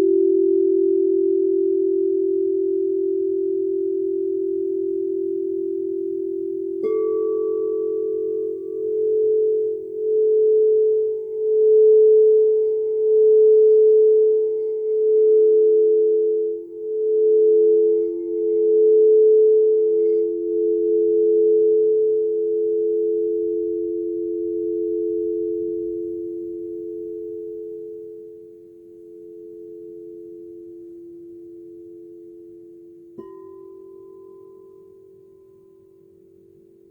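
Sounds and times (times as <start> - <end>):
singing bowls humming: 0.0 - 36.9.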